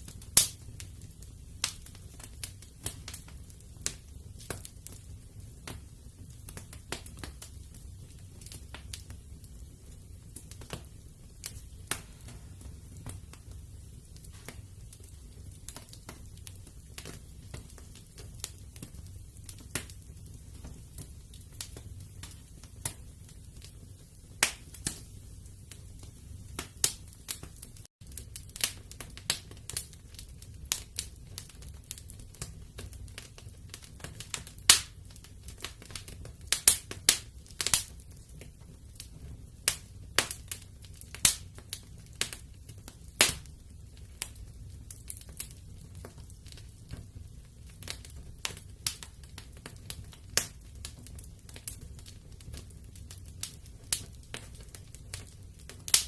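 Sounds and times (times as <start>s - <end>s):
low rumble of burning: 0.0s - 56.0s
sharp pops of fire: 0.0s - 56.0s
wood fire crackling: 0.0s - 56.0s.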